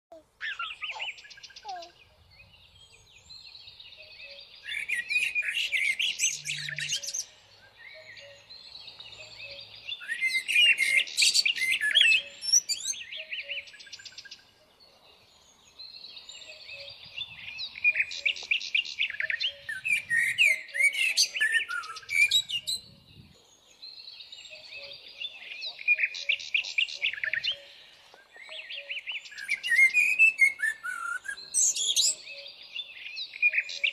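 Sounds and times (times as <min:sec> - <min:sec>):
birds chirping and twittering: 0:00.1 - 0:33.9.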